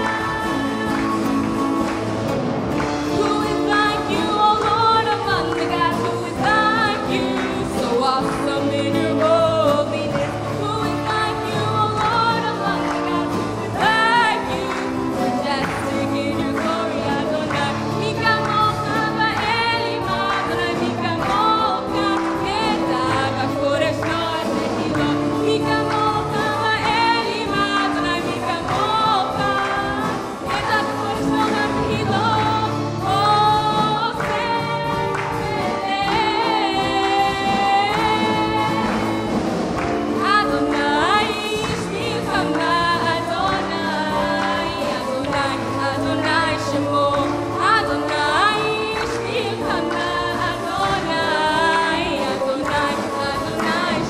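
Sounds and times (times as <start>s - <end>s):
instrumental accompaniment: 0.0s - 54.0s
voices singing with vibrato: 0.0s - 54.0s.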